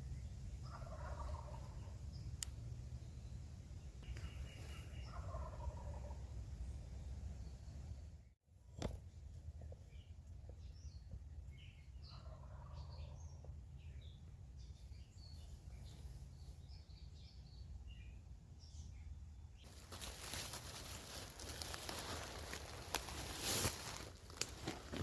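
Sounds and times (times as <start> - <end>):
songbirds chirping: 0.0 - 8.4, 9.1 - 25.0
low rumble of background noise: 0.0 - 25.0.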